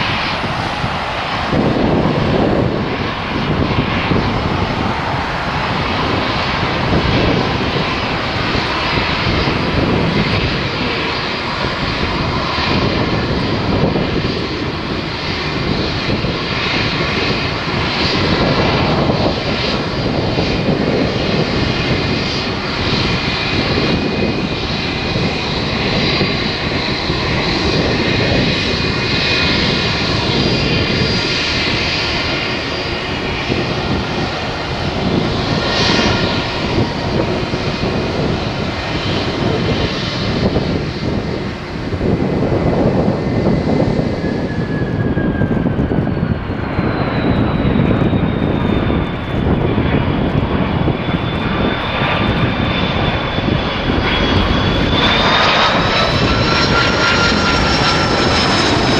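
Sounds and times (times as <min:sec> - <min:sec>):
jet engines taxiing with whine: 0:00.0 - 0:58.9.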